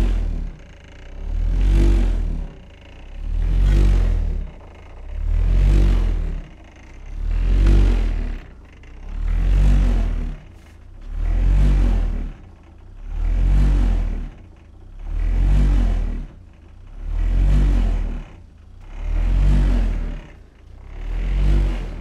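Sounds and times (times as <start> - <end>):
objects vibrating and buzzing: 0.0 - 22.0.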